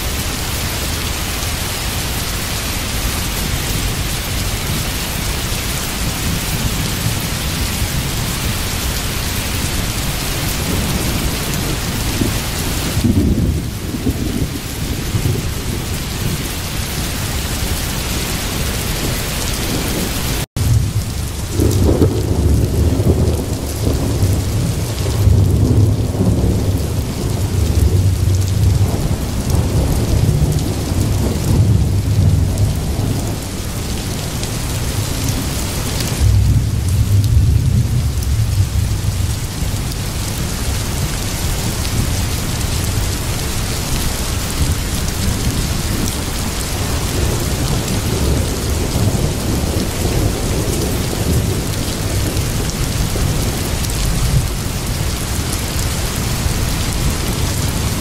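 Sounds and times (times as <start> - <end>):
rolling thunder: 0.0 - 58.0
steady rain hiss: 0.0 - 58.0.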